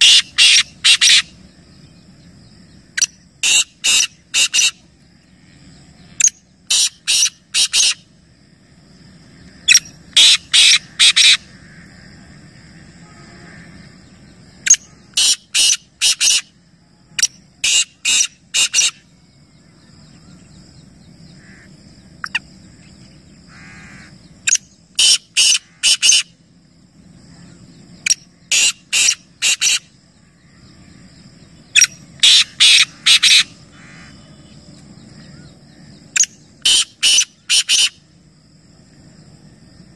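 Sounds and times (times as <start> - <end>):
francolin harsh call: 0.0 - 38.2
faint background noise: 0.0 - 39.9.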